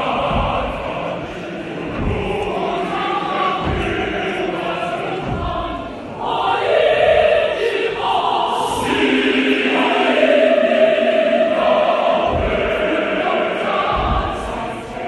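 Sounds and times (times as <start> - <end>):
large choir singing: 0.0 - 15.0.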